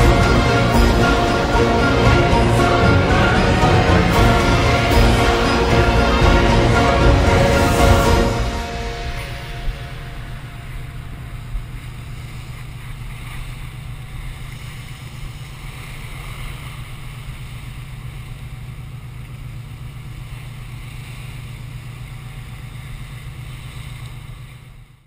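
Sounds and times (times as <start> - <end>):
ship engine rumble: 0.0 - 25.0
water rushing at the bow: 0.0 - 25.0.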